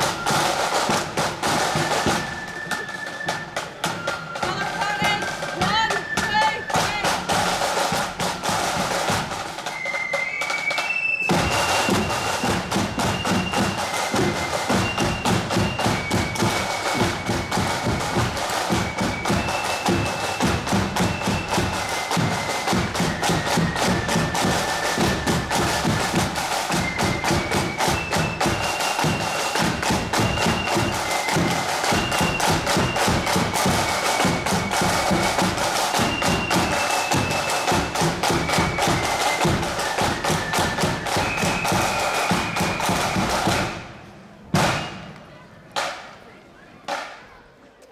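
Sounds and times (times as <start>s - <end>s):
snare and bass drums: 0.0s - 46.2s
marching band melody: 0.0s - 47.3s.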